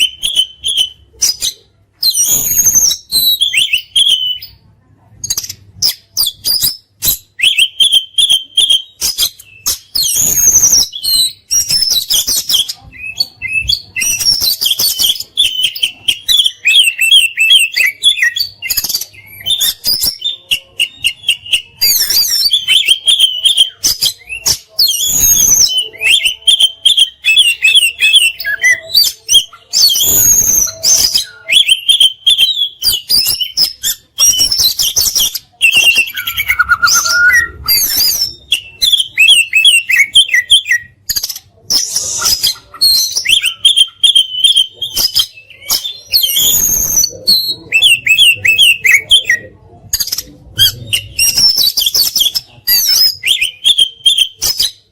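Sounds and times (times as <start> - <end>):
songbird whistling and trilling: 0.0 - 4.6, 5.3 - 54.9.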